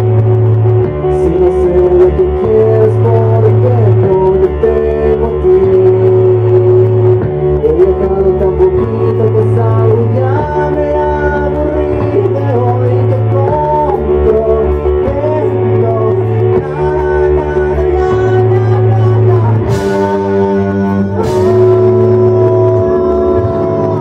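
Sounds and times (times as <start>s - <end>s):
drums: 0.0s - 24.0s
electric bass: 0.0s - 24.0s
electric guitar: 0.0s - 24.0s
man singing: 0.0s - 24.0s.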